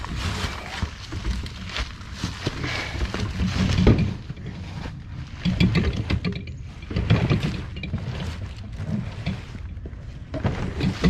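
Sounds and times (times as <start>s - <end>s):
hand truck clattering: 0.0s - 11.0s
heavy low bumps: 0.0s - 11.0s.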